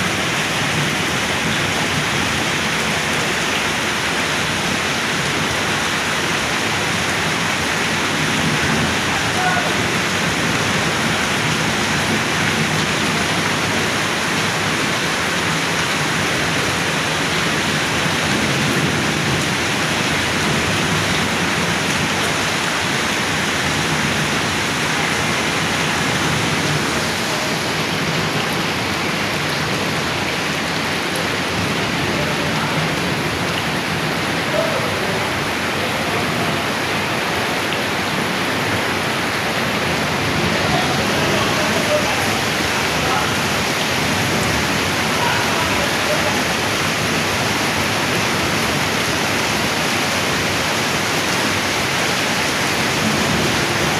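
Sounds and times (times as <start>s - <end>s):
heavy rain: 0.0s - 53.9s.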